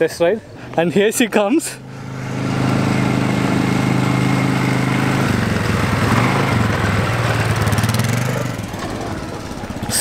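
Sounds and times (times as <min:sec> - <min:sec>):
quad bike engine running: 0:01.7 - 0:10.0.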